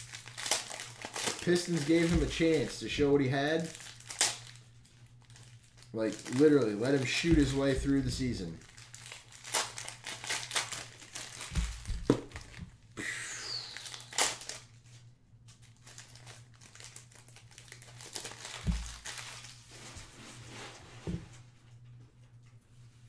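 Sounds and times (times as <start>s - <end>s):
cards crinkling and rustling: 0.0s - 12.7s, 13.5s - 19.9s.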